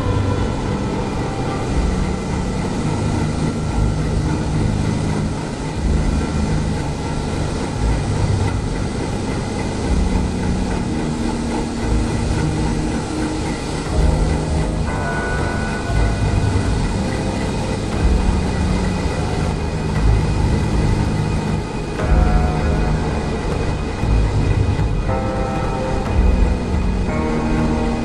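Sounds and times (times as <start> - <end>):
engine room machinery drone: 0.0 - 28.0.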